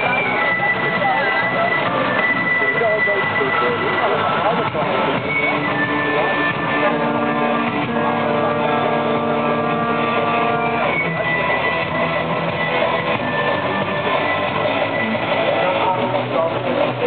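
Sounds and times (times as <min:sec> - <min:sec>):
music with long held chords: 0:00.0 - 0:17.0.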